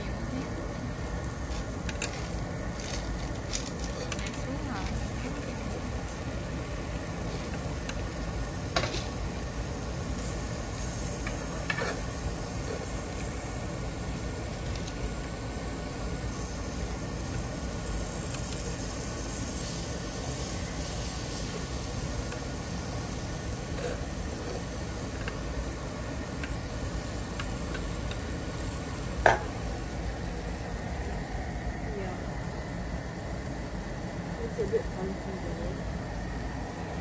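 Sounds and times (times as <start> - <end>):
food sizzling on grill: 0.0 - 37.0.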